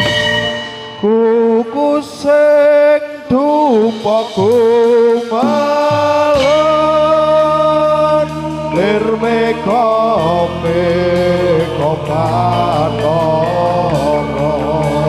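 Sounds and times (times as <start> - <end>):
person singing long ornamented notes: 0.0 - 15.0.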